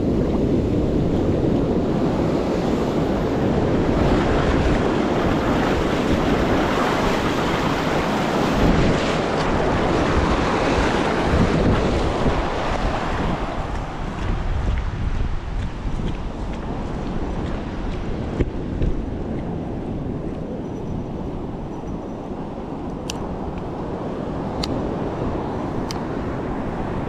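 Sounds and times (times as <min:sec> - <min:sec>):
ocean surf washing on beach: 0:00.0 - 0:27.0
wind buffeting microphone: 0:00.0 - 0:27.0.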